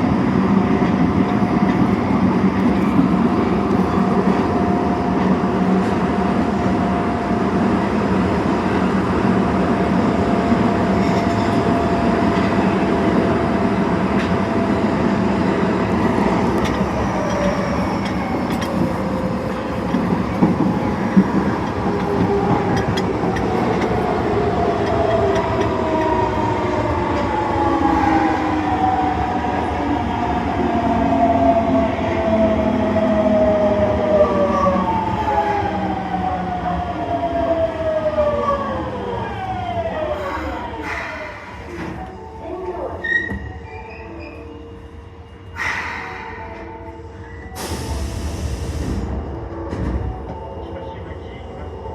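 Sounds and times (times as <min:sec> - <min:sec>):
subway motor whine: 0:00.0 - 0:51.9.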